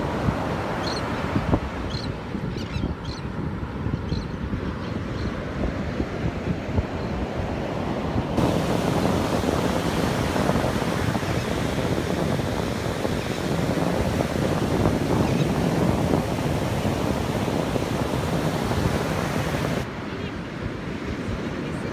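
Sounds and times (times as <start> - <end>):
ocean surf breaking on a beach: 0.0 - 21.9.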